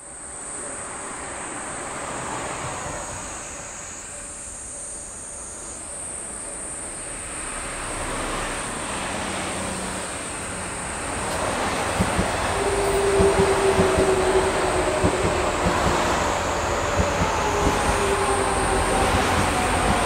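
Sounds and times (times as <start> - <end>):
cicadas shrilling: 0.0 - 20.0
train rumble: 0.0 - 20.0.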